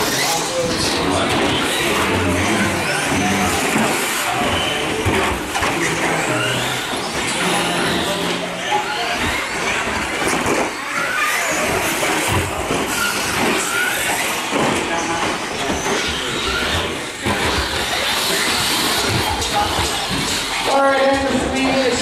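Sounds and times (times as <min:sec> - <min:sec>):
electric motors whining: 0:00.0 - 0:22.0
tyre noise: 0:00.0 - 0:22.0.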